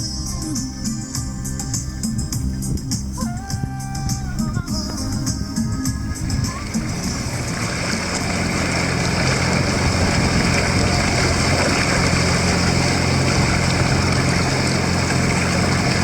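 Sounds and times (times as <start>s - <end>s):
outboard engine running: 0.0s - 16.0s.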